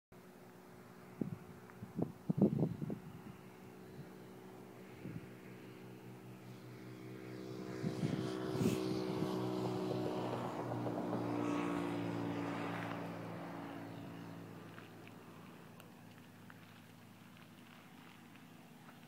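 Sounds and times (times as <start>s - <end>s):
engine passing by: 0.2s - 19.0s.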